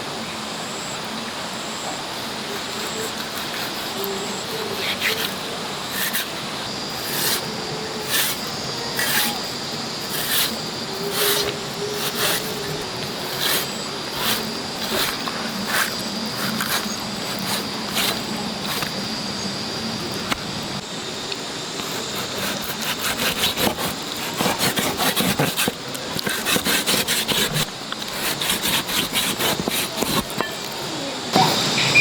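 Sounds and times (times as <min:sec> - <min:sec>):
steady hiss: 0:00.0 - 0:32.0
knife rasping on meat: 0:02.2 - 0:19.0, 0:21.8 - 0:30.9.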